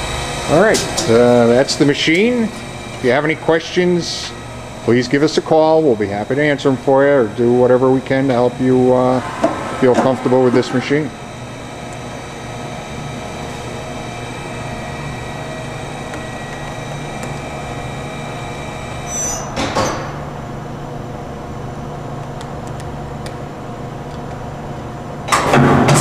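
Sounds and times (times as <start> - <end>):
machine hum: 0.0 - 22.2.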